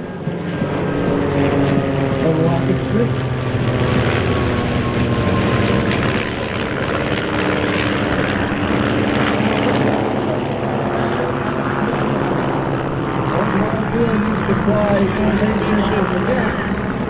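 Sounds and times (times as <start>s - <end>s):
propeller aircraft droning past: 0.0s - 17.0s.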